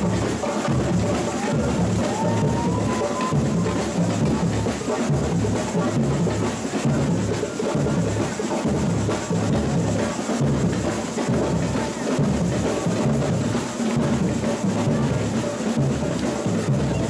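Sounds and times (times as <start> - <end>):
bass drums beating: 0.0 - 17.0
snare and hand percussion: 0.0 - 17.0.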